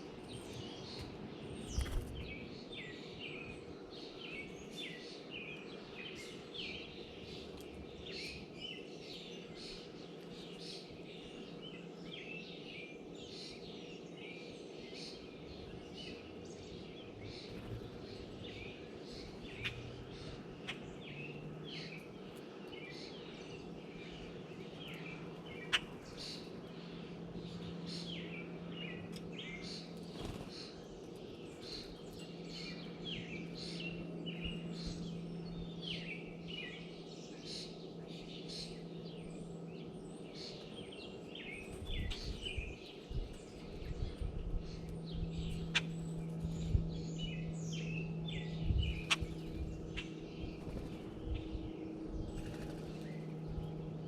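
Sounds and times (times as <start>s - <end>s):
small birds chirping: 0.0s - 54.0s
steady low hum: 0.0s - 54.0s.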